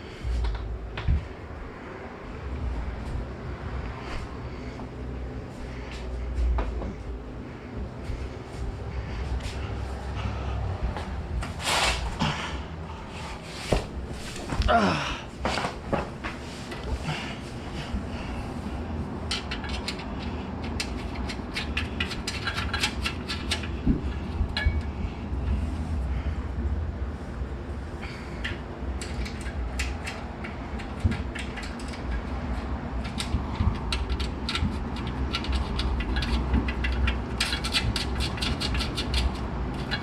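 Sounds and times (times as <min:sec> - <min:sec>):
low hum: 0:00.0 - 0:37.6.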